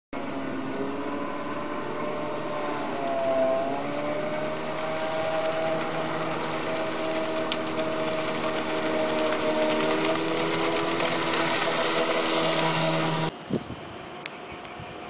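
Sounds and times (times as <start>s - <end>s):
small boat engine droning: 0.2s - 13.3s.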